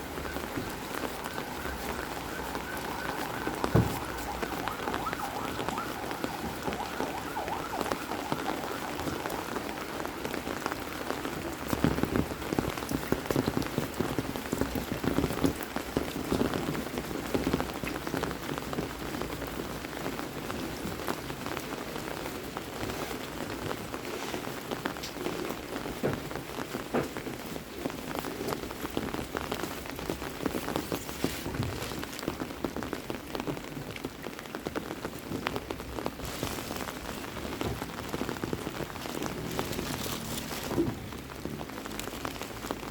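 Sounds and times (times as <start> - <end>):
heavy rain falling: 0.0 - 42.9
raindrops pattering close by: 0.0 - 42.9.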